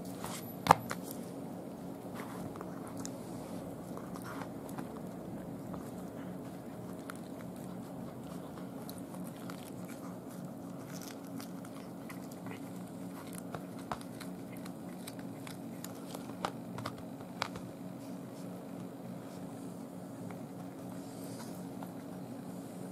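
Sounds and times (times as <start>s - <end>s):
cat chewing and crunching: 0.0s - 22.9s
steady low hum: 0.0s - 22.9s.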